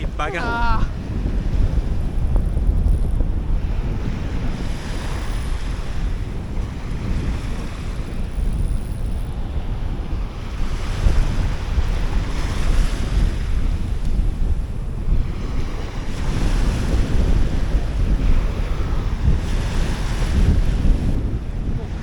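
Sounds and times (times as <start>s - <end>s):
surf washing up beach: 0.0s - 22.0s
wind buffeting microphone: 0.0s - 22.0s.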